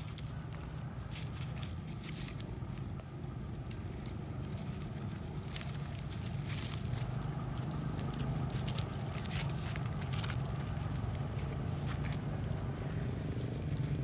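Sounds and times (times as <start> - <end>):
dry leaves crackling: 0.0 - 14.0
steady low rumble: 0.0 - 14.0.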